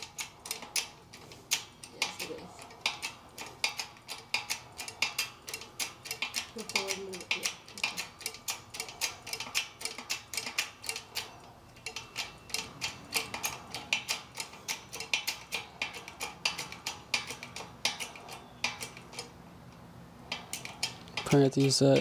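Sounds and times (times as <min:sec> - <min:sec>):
hydraulic jack metallic clicking: 0:00.0 - 0:22.0.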